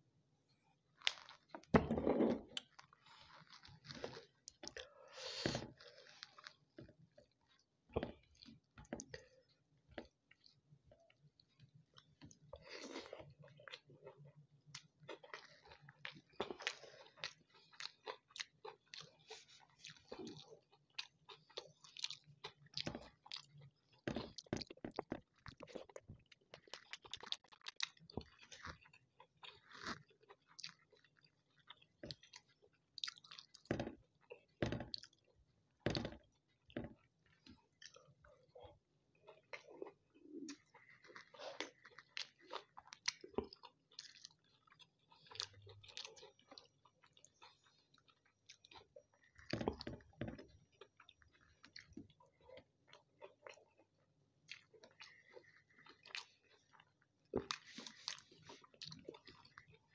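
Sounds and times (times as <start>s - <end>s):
person chewing food: 0.5s - 59.9s.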